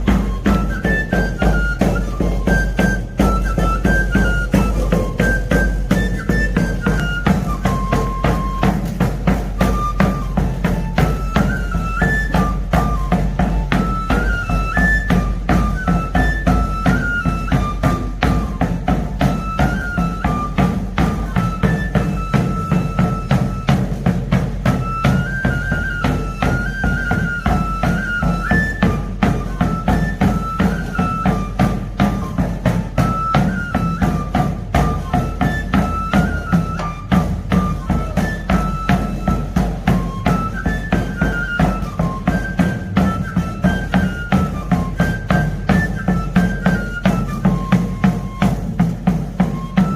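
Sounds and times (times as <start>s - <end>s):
rapid tabor drum beat: 0.0s - 49.9s.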